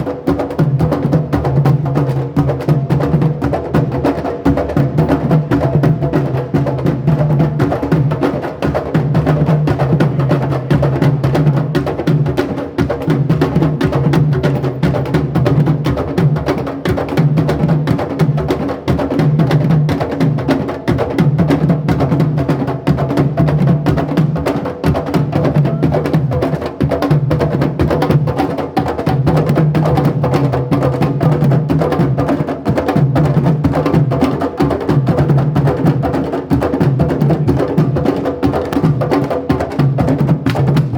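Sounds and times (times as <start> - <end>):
fast percussion music: 0.0 - 40.9.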